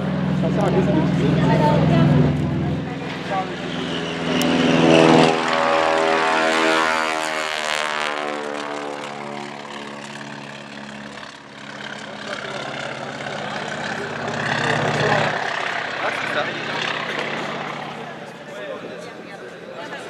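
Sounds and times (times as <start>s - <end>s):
propeller plane passing overhead: 0.0s - 20.0s.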